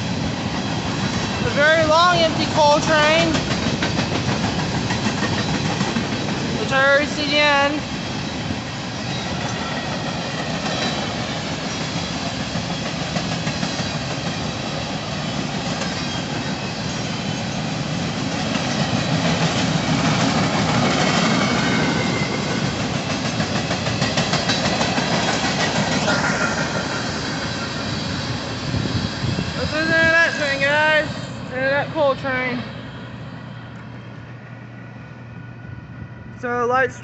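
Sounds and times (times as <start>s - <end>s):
steel wheels rumbling on rails: 0.0s - 37.0s
wheels clacking over rail joints: 0.2s - 29.8s.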